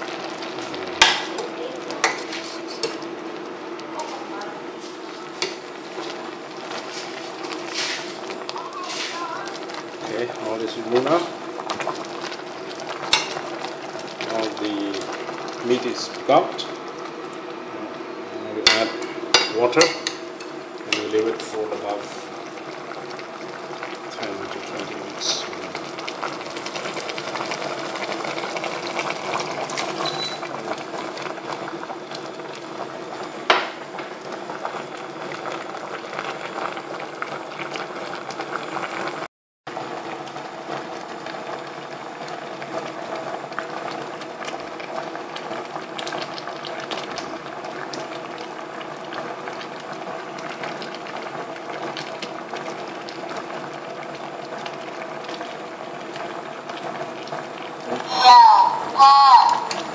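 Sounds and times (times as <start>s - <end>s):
soup boiling and bubbling: 0.0s - 59.9s.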